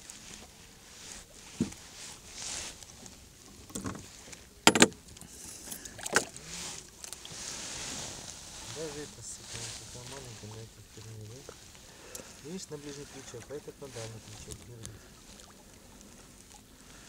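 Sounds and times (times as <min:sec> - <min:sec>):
water and wind hiss: 0:00.0 - 0:17.0.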